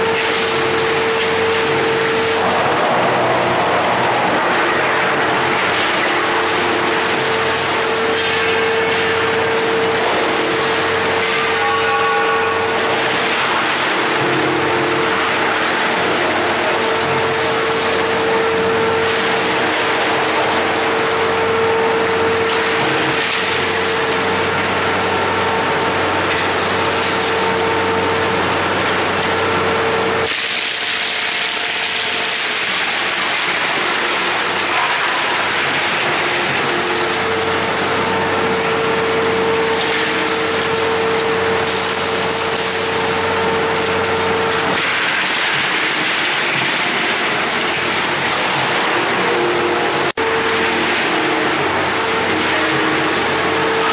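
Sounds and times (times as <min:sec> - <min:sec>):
wood chipper clattering: 0:00.0 - 0:53.9.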